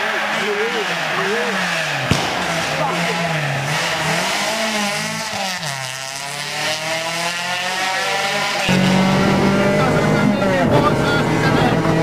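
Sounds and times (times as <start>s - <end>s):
rally car engine revving past: 0.0s - 12.0s.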